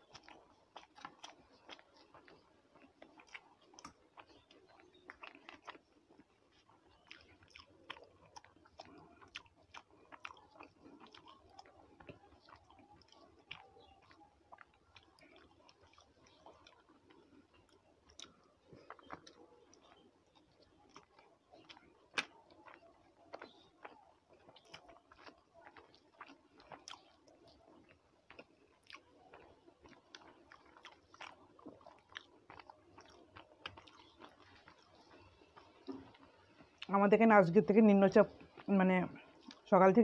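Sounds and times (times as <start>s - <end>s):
chewing with wet clicks: 0.0s - 40.0s.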